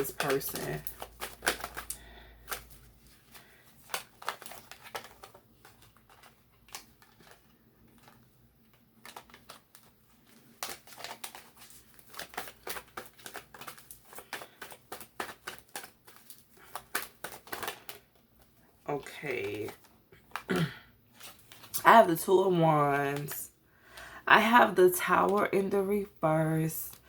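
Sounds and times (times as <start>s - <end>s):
cards being shuffled: 0.0s - 21.9s.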